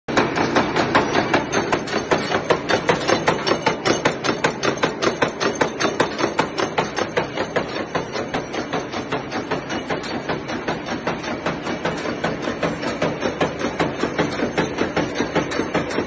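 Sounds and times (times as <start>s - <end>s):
nail making machine clattering: 0.1s - 16.0s.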